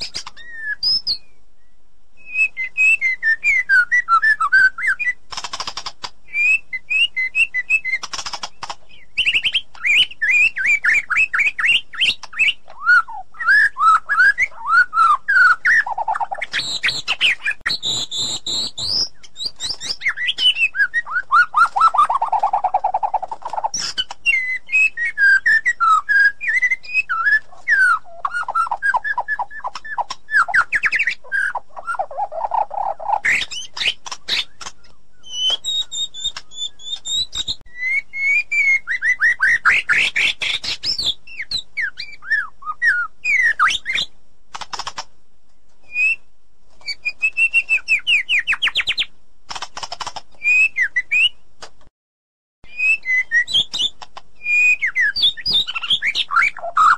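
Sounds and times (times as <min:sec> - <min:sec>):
songbird singing whistled notes: 0:00.0 - 0:44.1, 0:45.8 - 0:49.1, 0:50.4 - 0:51.4, 0:52.6 - 0:56.9.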